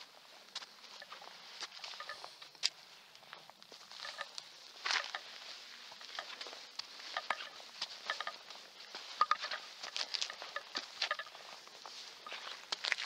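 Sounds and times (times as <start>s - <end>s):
footsteps on gritty stone: 0.5s - 13.0s.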